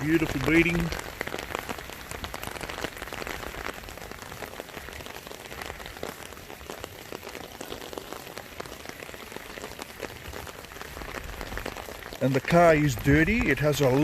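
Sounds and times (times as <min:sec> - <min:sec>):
rain falling: 0:00.0 - 0:14.0
sharp raindrop hits: 0:00.0 - 0:14.0.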